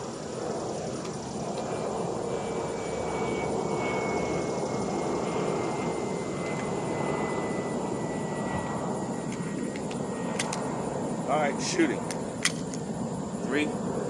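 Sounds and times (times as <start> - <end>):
aircraft engine droning: 0.0 - 14.0
high whine falling in pitch: 0.0 - 14.0.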